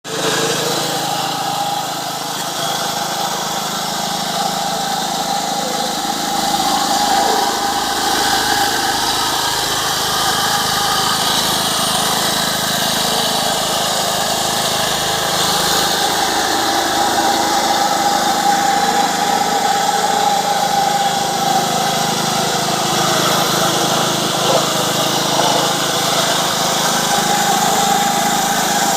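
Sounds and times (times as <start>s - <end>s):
plate vibrator engine humming: 0.1s - 28.9s.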